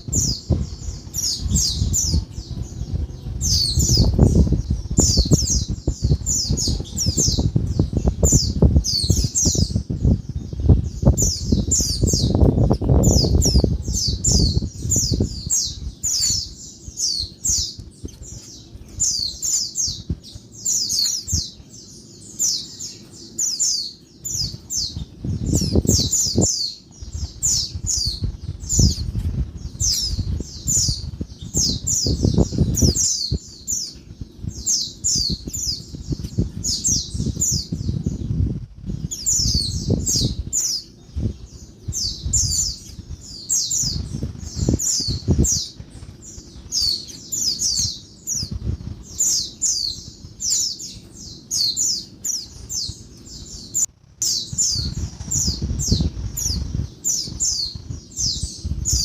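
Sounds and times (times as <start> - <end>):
low rumbling noise: 0.0 - 59.0.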